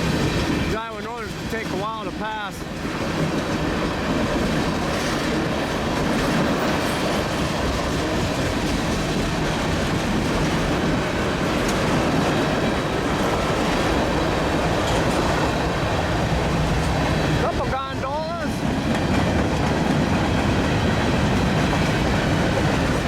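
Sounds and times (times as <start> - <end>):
steel wheels rumbling on rail: 0.0 - 23.0.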